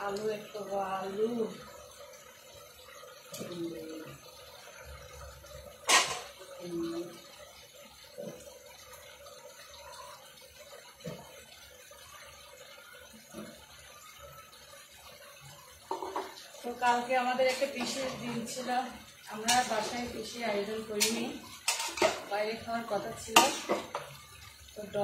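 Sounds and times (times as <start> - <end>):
food simmering in pan: 0.0 - 25.0.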